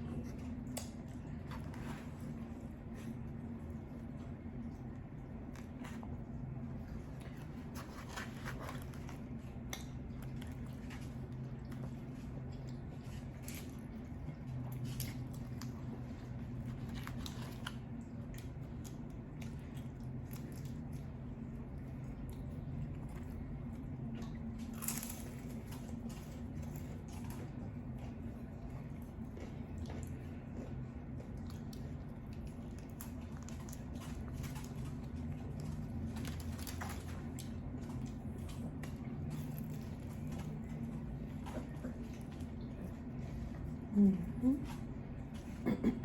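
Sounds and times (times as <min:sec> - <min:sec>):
chewing noodles: 0:00.0 - 0:45.8
steady low hum: 0:00.0 - 0:46.0.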